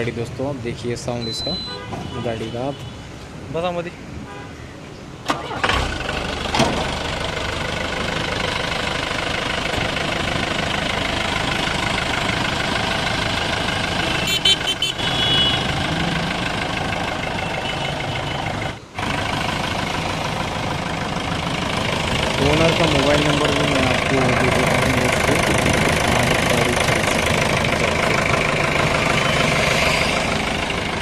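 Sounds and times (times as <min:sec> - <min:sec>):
diesel engine starting and idling: 0:05.2 - 0:31.0.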